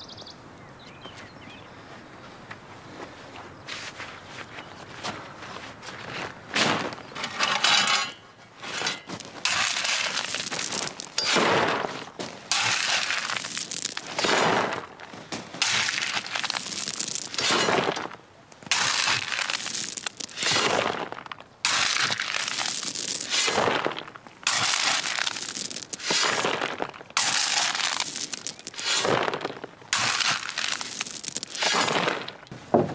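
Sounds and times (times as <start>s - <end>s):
shovel scraping gravel: 5.9s - 32.5s
gravel clattering into wheelbarrow: 6.0s - 32.5s.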